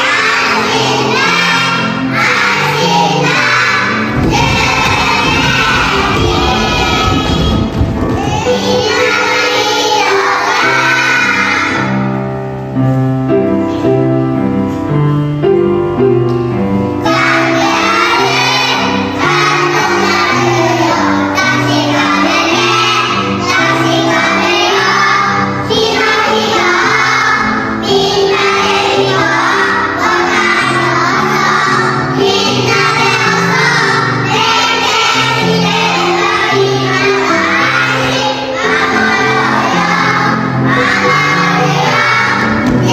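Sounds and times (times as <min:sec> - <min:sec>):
young children singing: 0:00.0 - 0:12.4, 0:16.9 - 0:42.9
instrumental backing track: 0:00.0 - 0:42.9.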